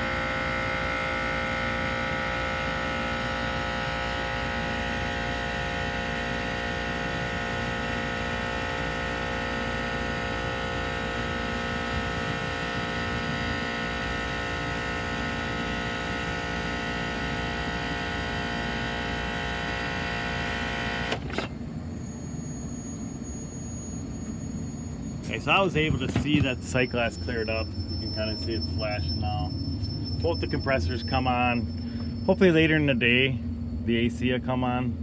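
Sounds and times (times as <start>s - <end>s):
air-conditioning unit humming: 0.0s - 35.0s.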